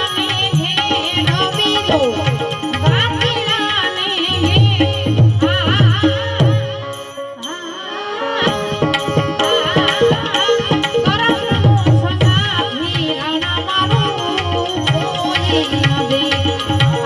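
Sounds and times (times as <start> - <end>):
tabla drumming: 0.0 - 7.3, 8.4 - 17.0.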